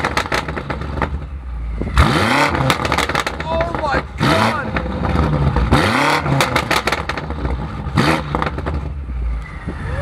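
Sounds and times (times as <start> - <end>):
exhaust pops and crackles: 0.0 - 1.3, 1.9 - 9.0
car engine revving: 0.0 - 9.9.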